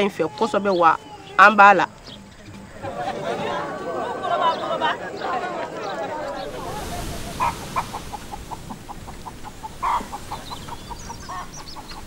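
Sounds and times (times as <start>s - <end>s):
small birds chirping: 0.0s - 2.9s, 4.5s - 12.0s
chickens clucking: 1.9s - 12.0s.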